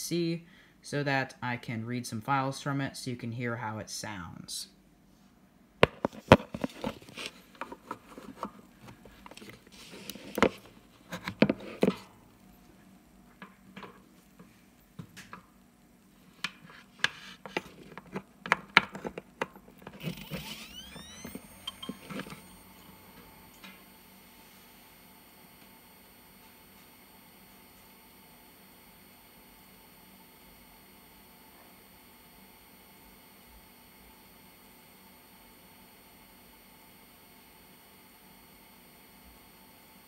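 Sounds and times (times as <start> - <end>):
hard drive whine: 5.8 - 40.0.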